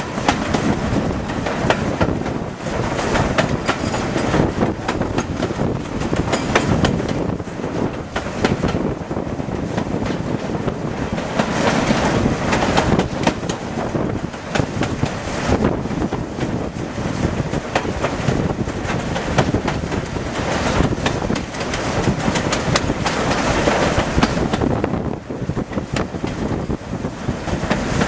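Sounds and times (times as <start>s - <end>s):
steady rushing noise: 0.0s - 28.0s
train wheels clicking over rail joints: 0.0s - 28.0s.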